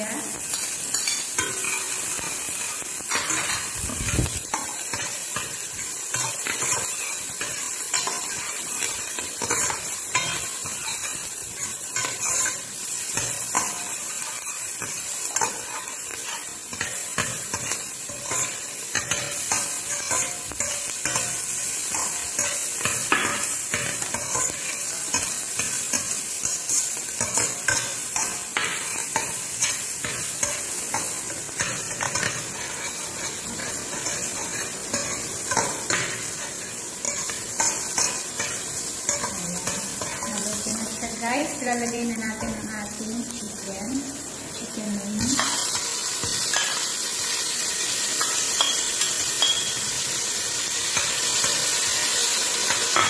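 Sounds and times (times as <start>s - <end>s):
onion sizzling in hot oil: 0.0s - 53.0s.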